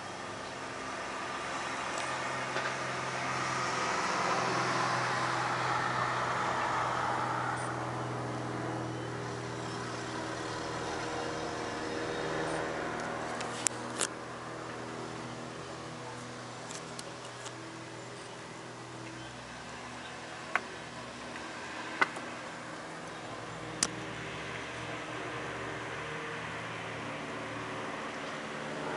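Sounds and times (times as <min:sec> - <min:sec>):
propeller plane humming: 0:00.0 - 0:28.9.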